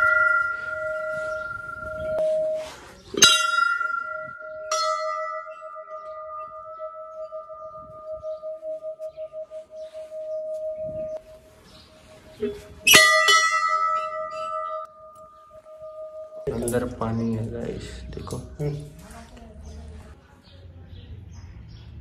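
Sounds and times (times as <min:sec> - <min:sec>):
temple bell ringing: 0:00.0 - 0:18.4.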